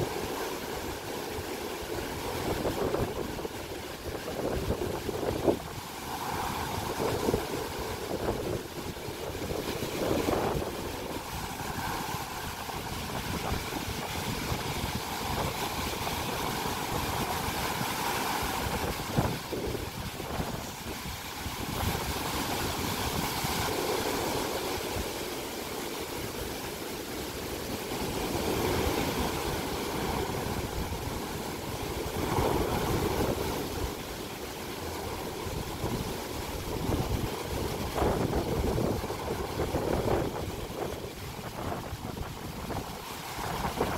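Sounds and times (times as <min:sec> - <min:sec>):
wind buffeting microphone: 0:00.0 - 0:25.3, 0:27.7 - 0:43.9
surf breaking on beach: 0:00.0 - 0:43.9.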